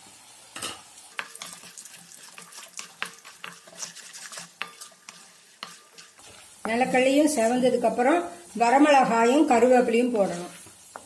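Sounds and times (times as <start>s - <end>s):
light frying sizzle: 0.0s - 11.0s
spatula scraping pan: 1.2s - 7.6s, 8.4s - 11.0s.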